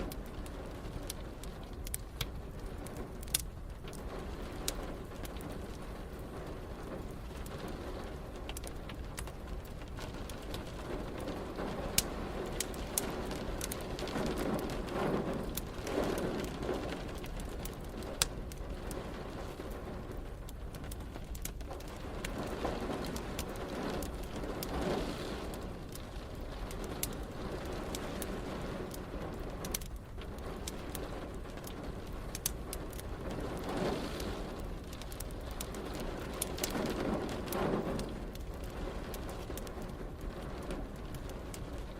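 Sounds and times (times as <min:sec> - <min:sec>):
rain hissing: 0:00.0 - 0:41.9
wood fire crackling and popping: 0:00.0 - 0:41.9.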